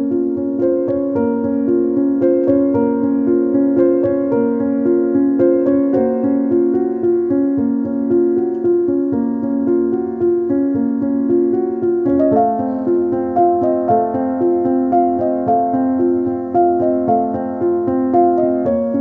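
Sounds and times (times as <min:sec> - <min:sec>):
soft piano music: 0:00.0 - 0:19.0.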